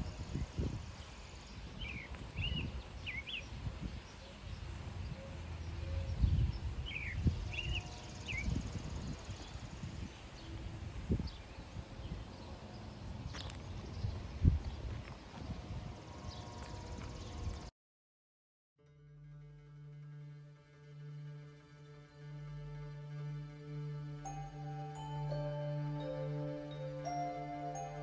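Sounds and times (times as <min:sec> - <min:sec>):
songbird chirping: 0:00.0 - 0:15.6, 0:21.0 - 0:28.0.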